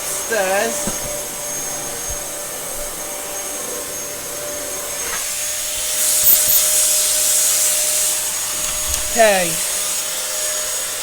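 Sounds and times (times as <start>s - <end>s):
bright hiss: 0.0s - 11.0s
vacuum cleaner motor whine: 0.0s - 11.0s.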